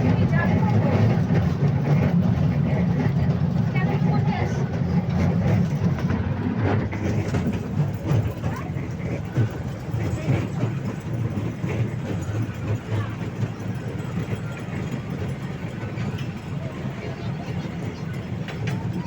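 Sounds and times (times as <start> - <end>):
toy train rumbling: 0.0 - 19.0
wheels rattling and clicking: 0.0 - 19.0.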